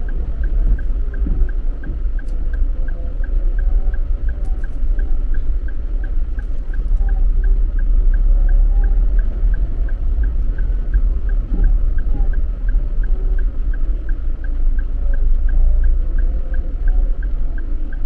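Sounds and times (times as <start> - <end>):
engine and tyres rumbling: 0.0 - 18.0
light regular ticking: 0.0 - 18.0.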